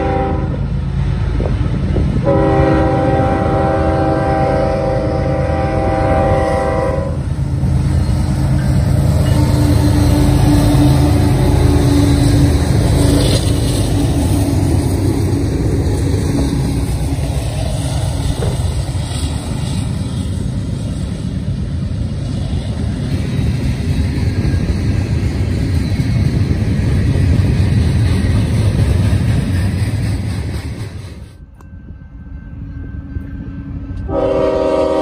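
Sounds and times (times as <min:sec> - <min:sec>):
diesel locomotive engines: 0:00.0 - 0:35.0
freight cars rumbling over rails: 0:00.0 - 0:35.0.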